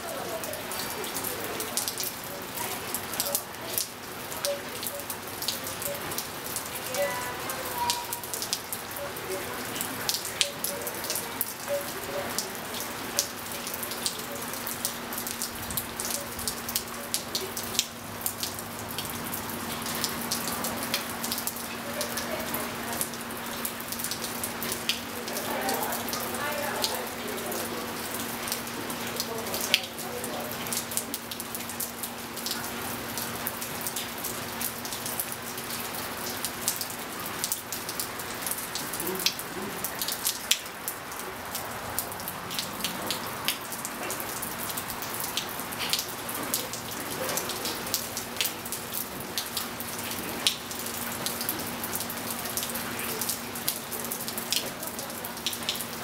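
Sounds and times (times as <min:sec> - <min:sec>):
rain falling on pool and patio: 0:00.0 - 0:56.0
sharp water drips: 0:00.0 - 0:56.0.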